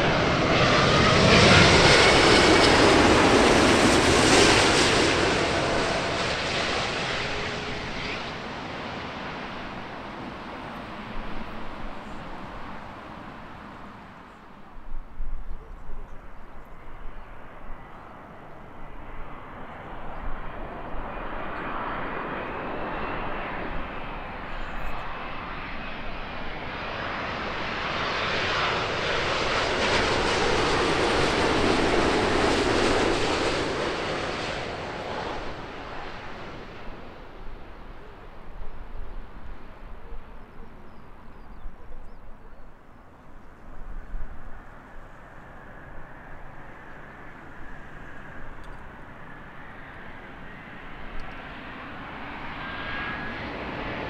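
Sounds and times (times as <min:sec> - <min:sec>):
jet airliner engine roar: 0:00.0 - 0:54.0
jet engine whine: 0:00.0 - 0:54.0.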